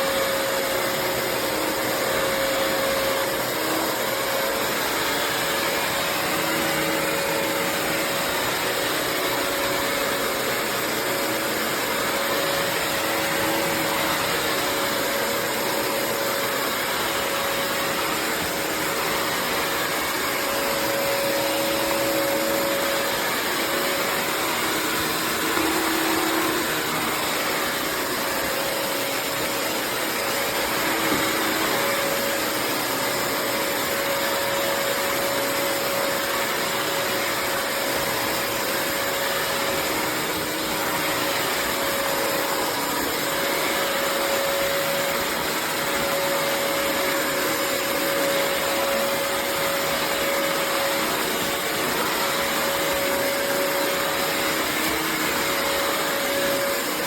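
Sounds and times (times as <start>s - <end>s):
wet-dry vacuum running: 0.0s - 57.0s.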